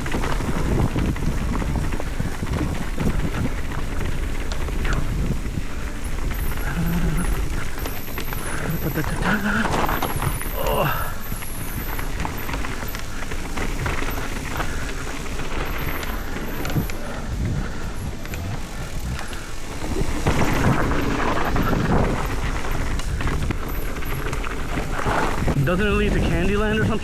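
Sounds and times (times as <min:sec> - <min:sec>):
bike tyres rolling on dirt: 0:00.0 - 0:27.0.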